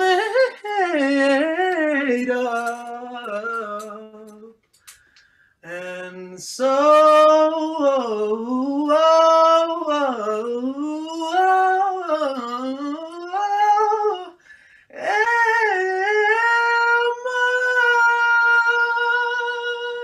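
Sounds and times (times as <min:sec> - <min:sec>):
person singing unaccompanied: 0:00.0 - 0:04.6, 0:05.6 - 0:20.0.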